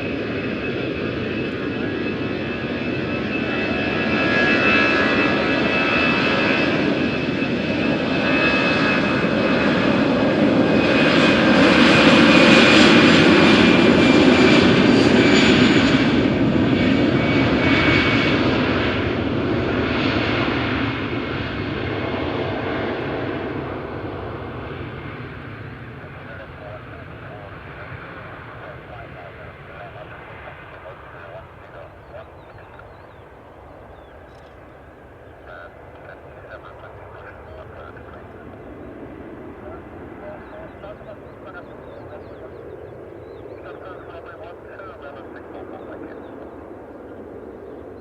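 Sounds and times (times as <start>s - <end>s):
jet engines roaring with whine: 0.0s - 48.0s.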